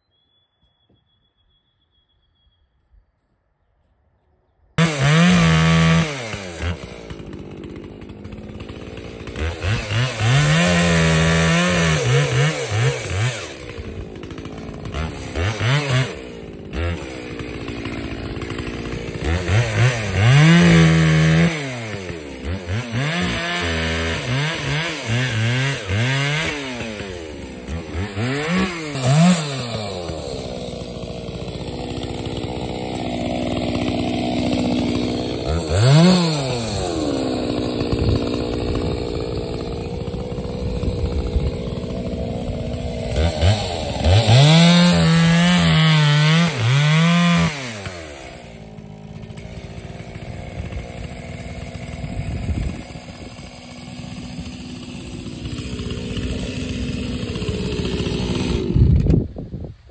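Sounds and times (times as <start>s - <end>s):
chainsaw revving cutting wood: 4.8s - 59.6s.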